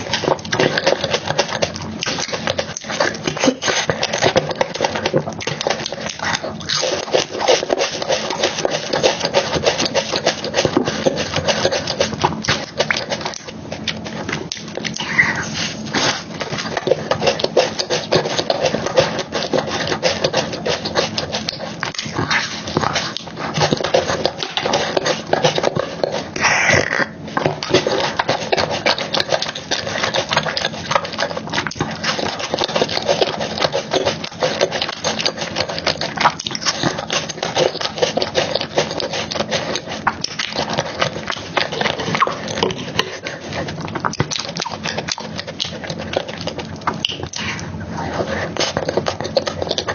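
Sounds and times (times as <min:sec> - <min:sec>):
wet chewing and mouth smacking: 0:00.0 - 0:49.9.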